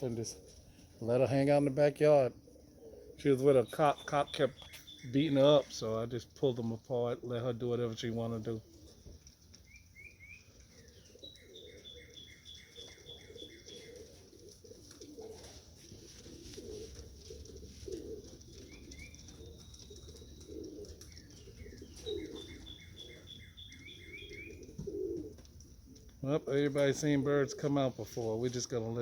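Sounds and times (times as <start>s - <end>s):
pigeons cooing: 0.0s - 29.0s
songbird chirping: 0.0s - 29.0s.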